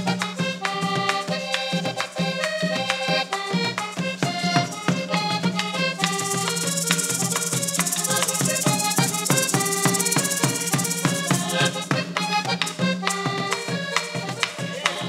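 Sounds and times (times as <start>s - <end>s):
accordion playing cumbia: 0.0s - 15.0s
fast hand percussion rattle: 0.0s - 15.0s
drum beat: 0.8s - 15.0s.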